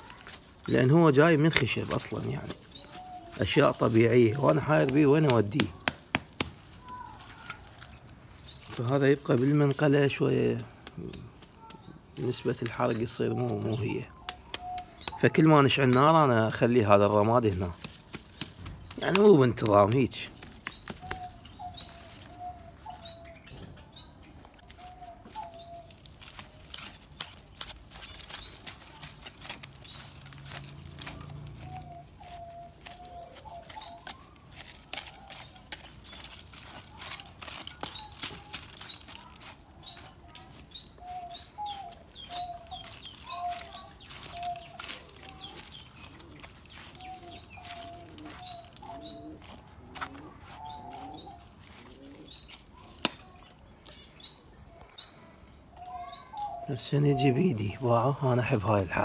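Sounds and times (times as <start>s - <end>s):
scraper scratching soil: 0.0s - 23.4s, 24.0s - 53.1s
birds chirping: 0.0s - 59.0s.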